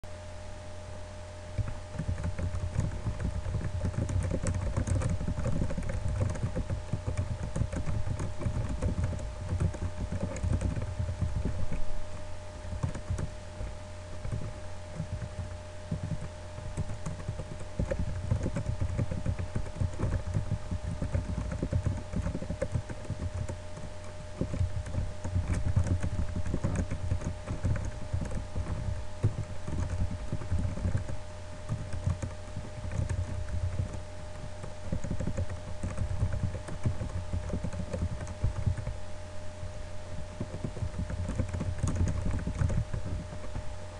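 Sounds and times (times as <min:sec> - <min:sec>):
steady low hum: 0:00.0 - 0:43.9
typing on computer keyboard: 0:01.6 - 0:11.8, 0:12.6 - 0:13.3, 0:14.2 - 0:39.0, 0:40.4 - 0:43.6.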